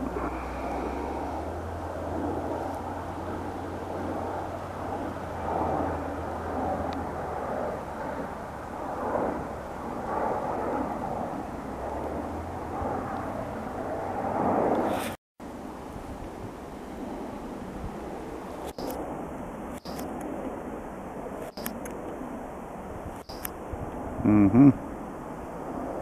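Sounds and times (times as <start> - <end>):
jet airliner roar: 0.0 - 26.0
steady low hum: 0.0 - 26.0.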